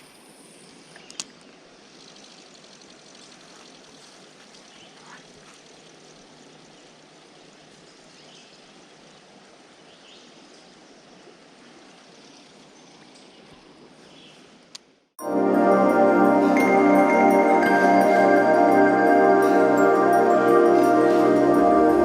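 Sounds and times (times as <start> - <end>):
creek water flowing: 1.4 - 12.8, 15.2 - 22.0.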